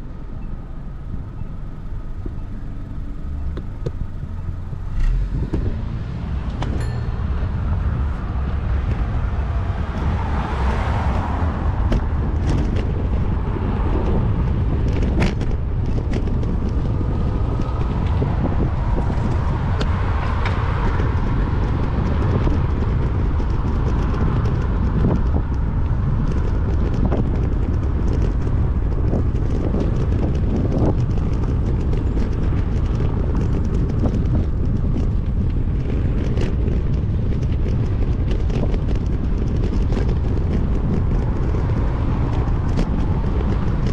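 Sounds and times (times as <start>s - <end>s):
cars passing: 0.0s - 43.9s
wind rumbling on microphone: 0.0s - 43.9s
bike clicks and rattles: 8.8s - 43.9s.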